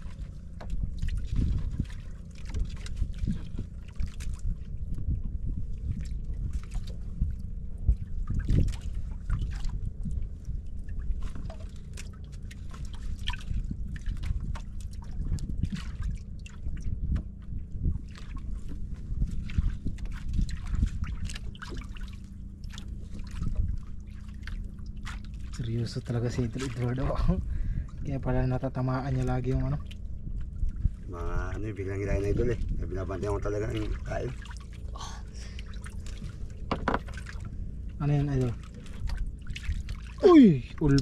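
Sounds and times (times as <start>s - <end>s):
steady low rumble: 0.0s - 41.0s
water sloshing and splashing: 0.0s - 41.0s.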